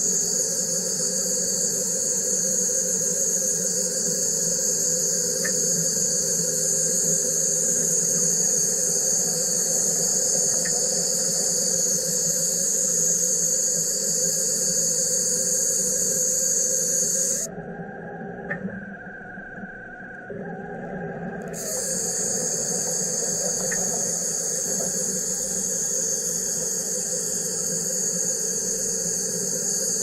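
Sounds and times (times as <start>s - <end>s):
machine hissing and humming: 0.0s - 17.5s, 21.4s - 30.0s.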